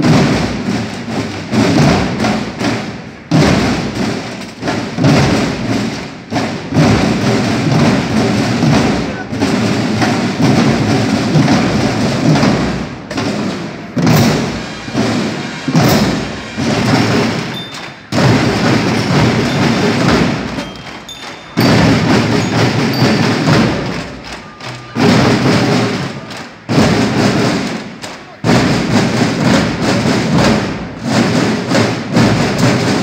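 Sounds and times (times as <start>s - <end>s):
marching band drums and percussion: 0.0s - 33.0s.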